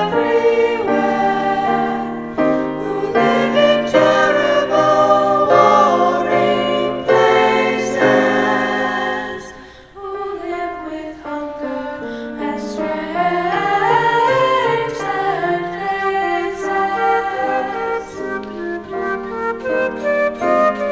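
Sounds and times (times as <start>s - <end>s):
choir singing sustained chords: 0.0s - 20.9s.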